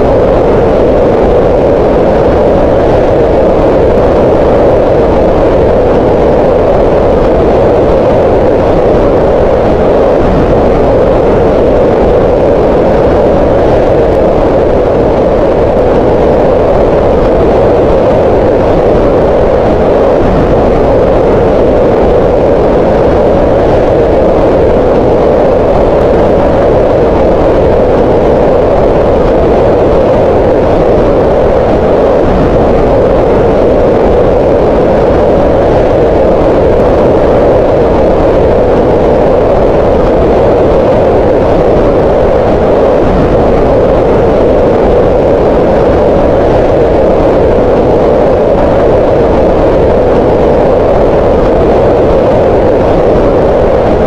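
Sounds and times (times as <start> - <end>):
steady green noise: 0.0 - 54.0.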